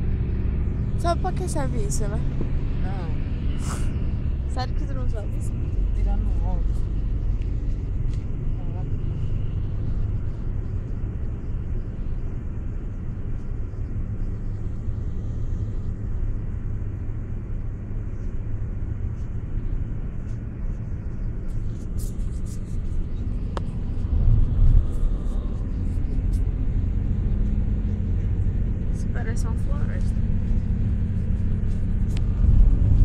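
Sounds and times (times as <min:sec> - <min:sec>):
tyres and engine rumble: 0:00.0 - 0:33.0.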